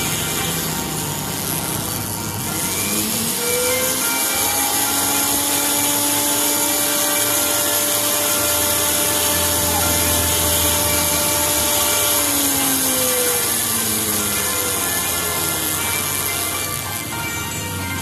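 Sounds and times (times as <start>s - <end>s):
rotary tool grinding quartz: 0.0s - 18.0s.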